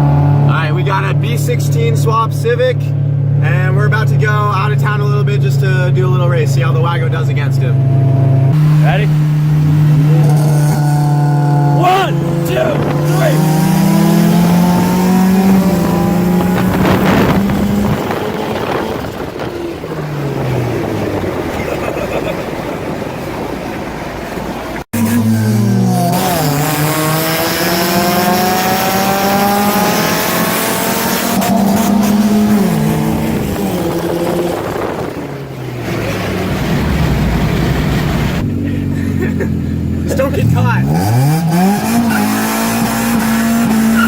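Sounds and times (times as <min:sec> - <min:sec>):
car engine accelerating hard: 0:00.0 - 0:44.0
road and wind noise: 0:00.0 - 0:44.0.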